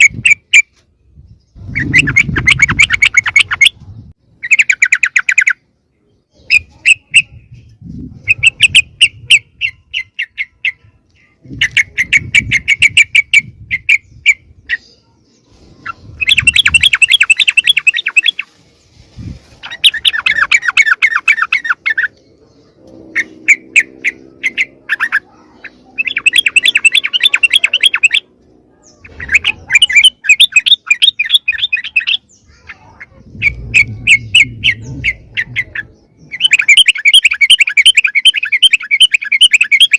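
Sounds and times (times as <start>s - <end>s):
bulbuls chattering calls: 1.6s - 3.8s, 4.4s - 5.6s, 6.4s - 39.9s.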